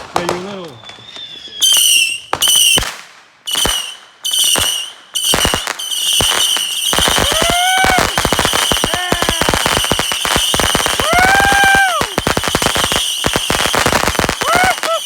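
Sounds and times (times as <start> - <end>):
fireworks crackling: 0.0 - 15.0
fireworks whistling: 0.0 - 15.0.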